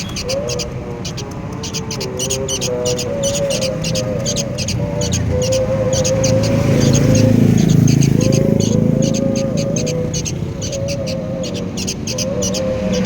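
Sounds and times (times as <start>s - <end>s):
bird chicks begging calls: 0.0s - 13.0s.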